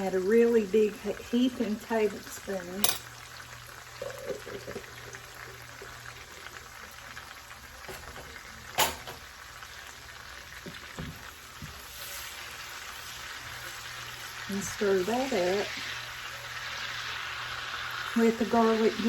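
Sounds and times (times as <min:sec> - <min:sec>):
garlic sizzling in a pan: 0:00.0 - 0:19.0.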